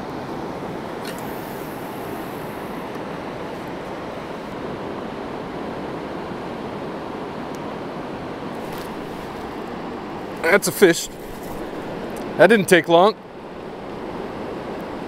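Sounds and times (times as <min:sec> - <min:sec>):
river rushing over rapids: 0:00.4 - 0:15.0.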